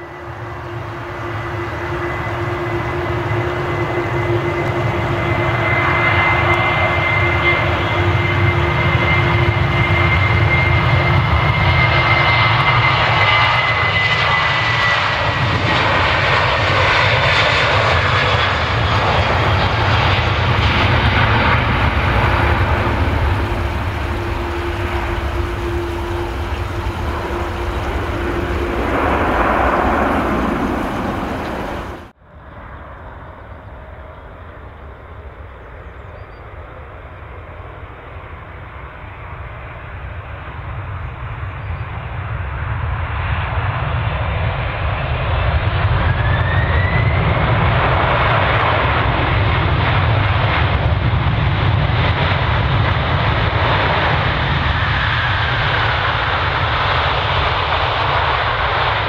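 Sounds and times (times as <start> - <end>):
jet engines at takeoff: 0.0 - 59.0
jet engines rising whine: 0.0 - 59.0.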